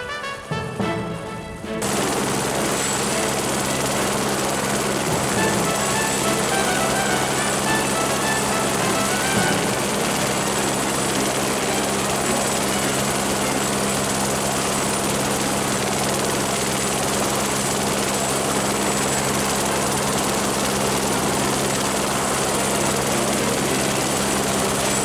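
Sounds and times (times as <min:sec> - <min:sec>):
helicopter in flight: 0:00.1 - 0:25.0.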